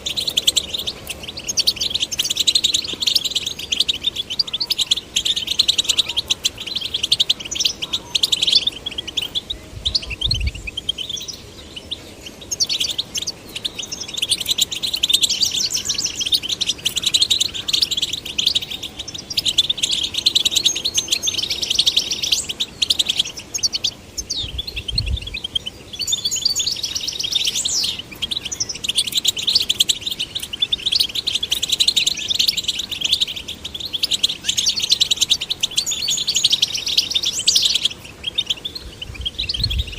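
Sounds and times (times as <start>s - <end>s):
goldfinches twittering song: 0.0s - 39.9s.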